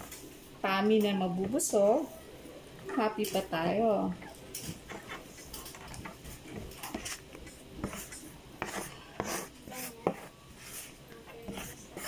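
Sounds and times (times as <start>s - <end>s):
dough kneaded by hand: 0.0s - 12.0s.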